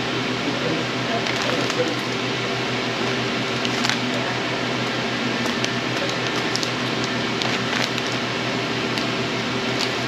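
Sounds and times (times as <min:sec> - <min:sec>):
fan humming: 0:00.0 - 0:10.0.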